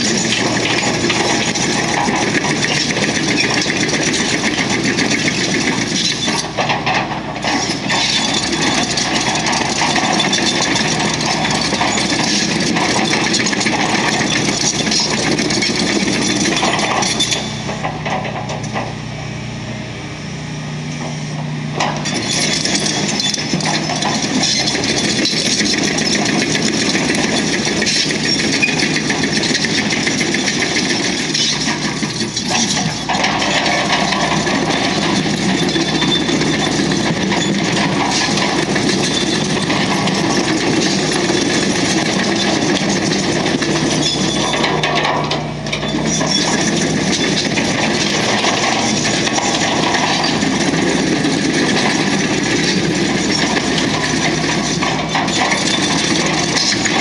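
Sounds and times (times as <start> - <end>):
scraping and knocking clatter: 0.0 - 19.0, 21.8 - 57.0
diesel engine running: 0.0 - 57.0.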